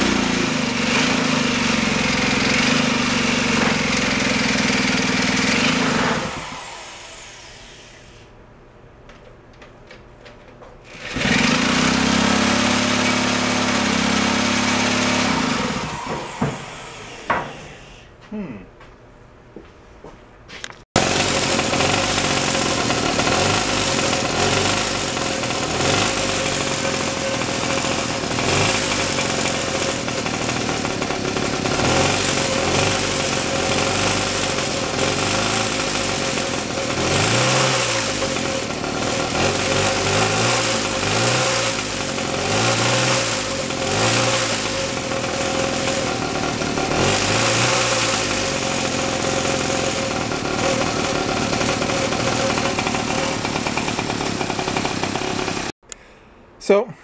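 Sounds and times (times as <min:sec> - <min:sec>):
single-cylinder engine running: 0:00.0 - 0:08.2, 0:10.9 - 0:18.0, 0:21.0 - 0:55.8.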